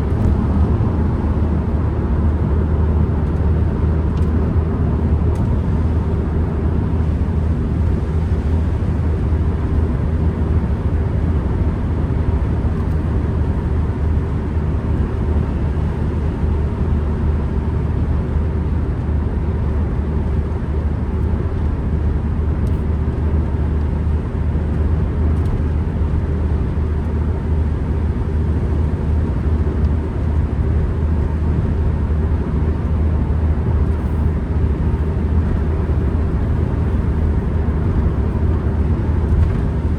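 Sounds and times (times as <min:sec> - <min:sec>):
van engine and road drone: 0:00.0 - 0:39.9.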